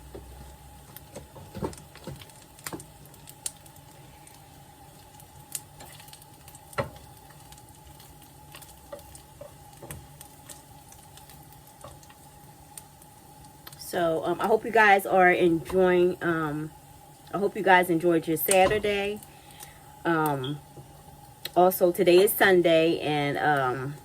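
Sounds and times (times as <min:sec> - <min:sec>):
sausages sizzling in a frying pan: 0:00.0 - 0:24.0.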